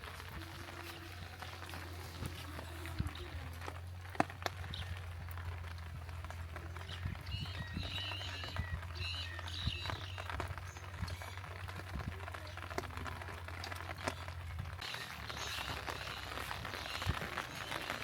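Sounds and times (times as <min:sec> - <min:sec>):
birds chirping: 0:00.0 - 0:18.0
rain dripping and pattering: 0:00.0 - 0:18.0.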